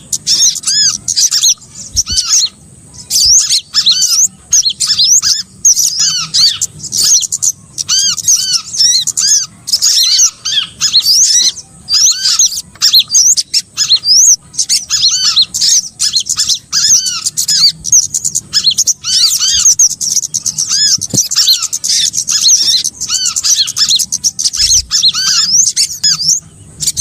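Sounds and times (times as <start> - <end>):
songbirds rapid high chirps: 0.0 - 27.0.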